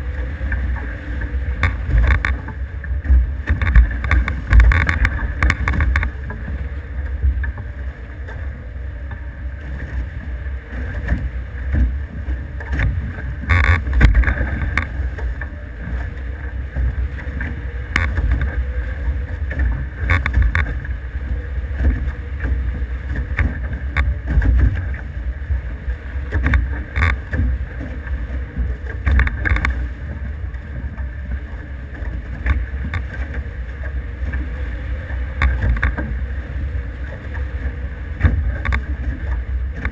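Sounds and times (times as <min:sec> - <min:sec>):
water rushing along hulls: 0:00.0 - 0:39.9.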